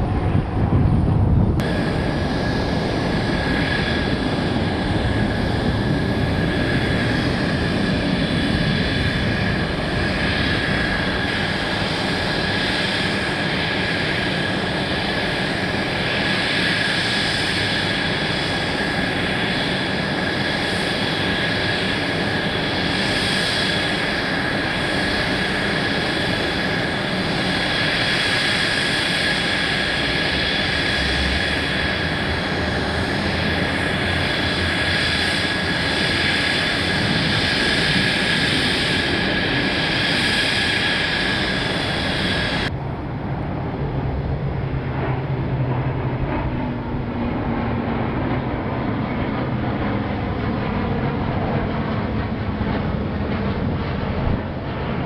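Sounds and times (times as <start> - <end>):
jet engine whine and rumble: 0.0 - 55.0.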